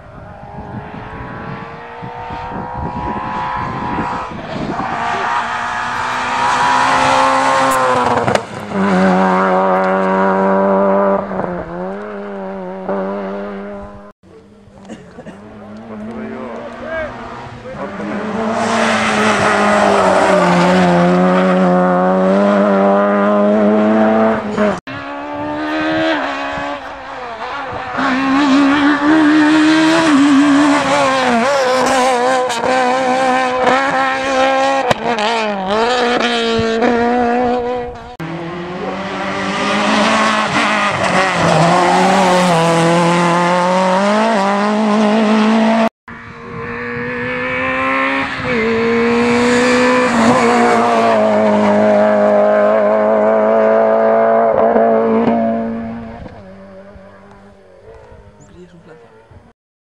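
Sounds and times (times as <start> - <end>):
rally cars revving past: 0.0 - 14.1, 14.7 - 59.4.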